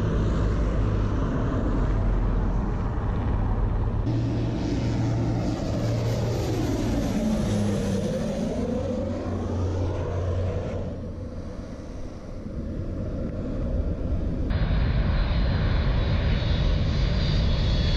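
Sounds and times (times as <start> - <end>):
turboprop plane passing overhead: 0.0 - 17.9.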